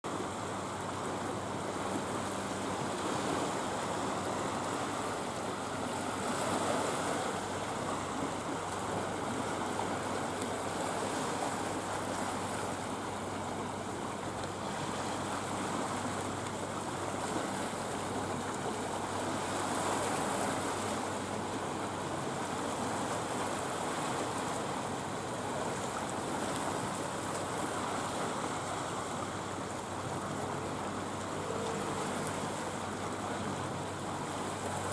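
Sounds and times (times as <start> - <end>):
sea waves lapping on rocks: 0.1 - 34.9.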